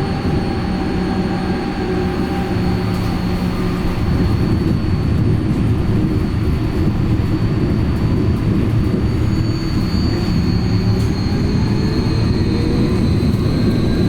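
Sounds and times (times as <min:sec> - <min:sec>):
tram wheels rumbling: 0:00.0 - 0:14.0.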